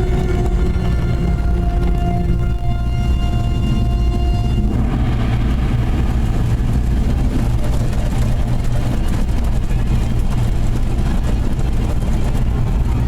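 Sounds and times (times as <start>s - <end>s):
car wash machinery rumbling: 0.0s - 13.0s
rushing noise: 0.0s - 13.0s.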